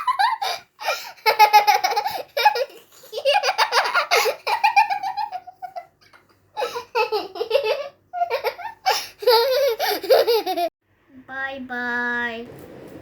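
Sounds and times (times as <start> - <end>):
girl giggling: 0.0 - 10.7.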